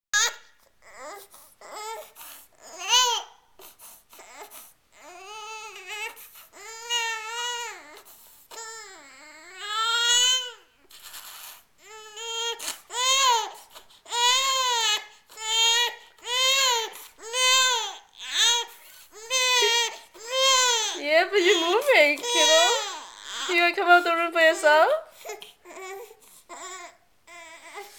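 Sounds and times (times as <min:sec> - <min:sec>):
baby crying: 0:00.2 - 0:03.3, 0:04.2 - 0:10.7, 0:11.8 - 0:27.9.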